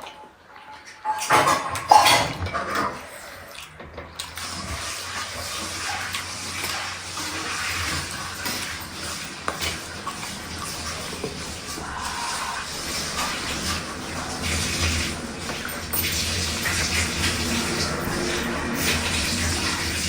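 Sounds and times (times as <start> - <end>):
utensils clinking on bowl: 1.0 - 20.0
noodle slurping: 3.0 - 20.0.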